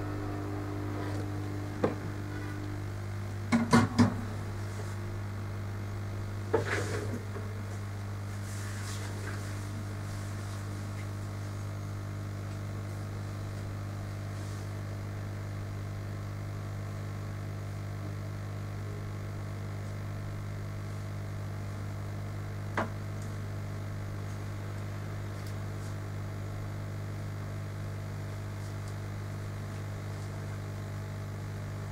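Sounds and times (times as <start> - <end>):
electrical mains hum: 0.0 - 31.9.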